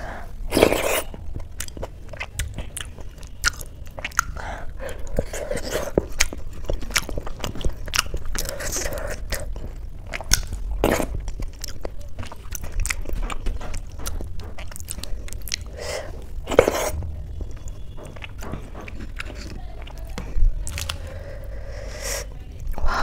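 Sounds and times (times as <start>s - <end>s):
wet eating sound: 0.0s - 23.0s.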